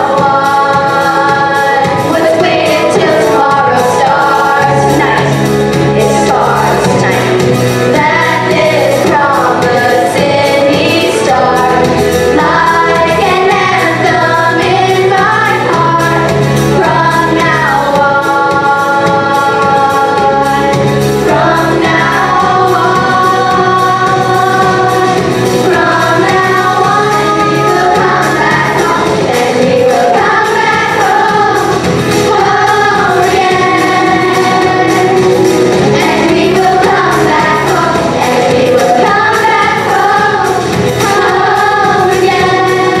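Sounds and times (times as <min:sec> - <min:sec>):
children singing in chorus: 0:00.0 - 0:05.4, 0:06.0 - 0:43.0
instrumental accompaniment: 0:00.0 - 0:43.0.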